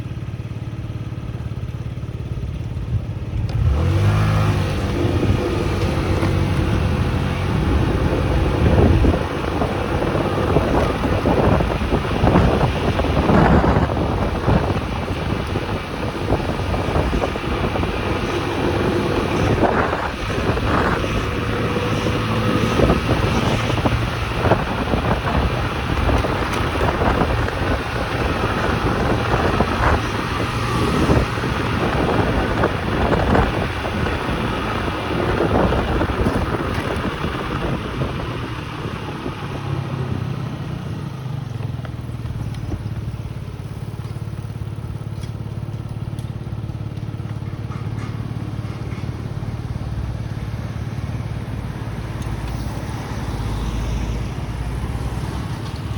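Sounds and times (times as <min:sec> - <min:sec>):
small motorcycle engine running: 0:00.0 - 0:54.5
road noise: 0:00.0 - 0:55.9
rushing wind: 0:00.0 - 0:55.9.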